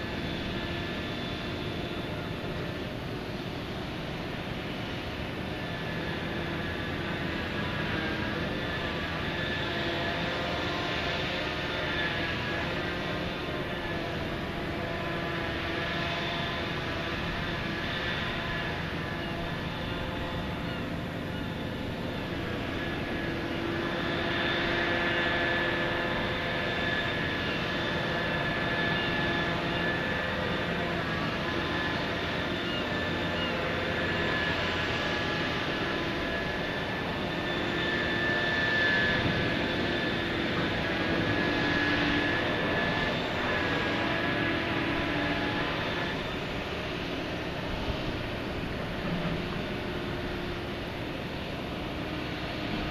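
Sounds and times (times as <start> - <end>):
heavy machinery diesel drone: 0.0 - 52.9.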